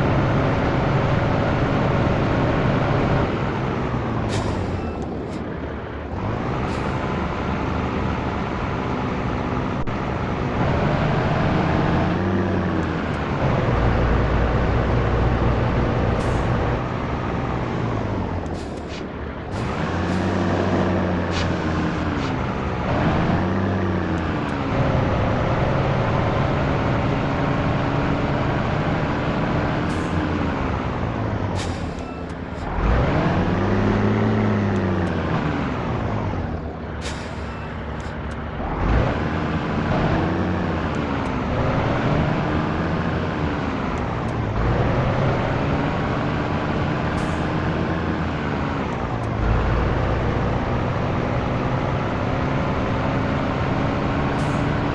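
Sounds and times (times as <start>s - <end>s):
truck diesel engine revving: 0.0s - 54.9s.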